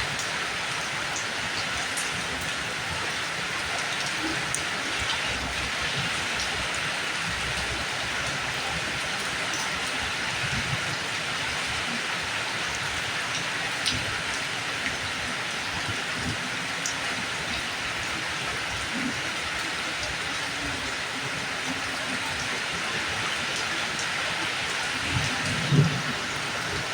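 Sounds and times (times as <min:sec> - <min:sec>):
steady rain hiss: 0:00.0 - 0:26.9
raindrops tapping on surfaces: 0:00.1 - 0:26.9.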